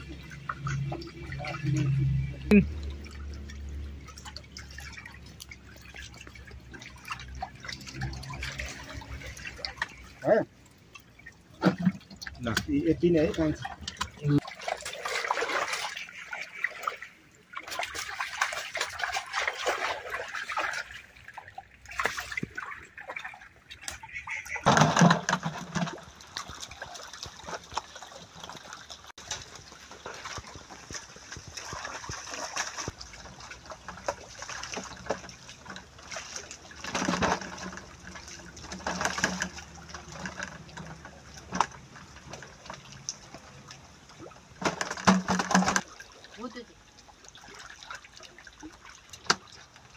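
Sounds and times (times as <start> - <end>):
shallow water splashing: 0.0 - 49.9.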